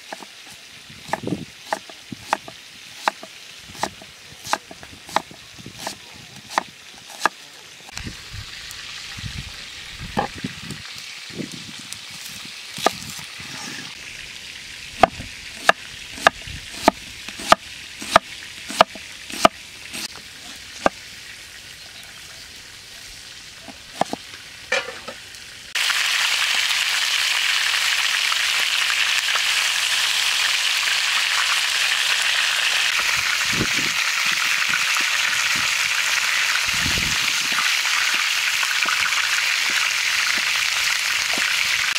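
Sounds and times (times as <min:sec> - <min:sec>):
food sizzling in a hot pan: 0:00.0 - 0:41.9.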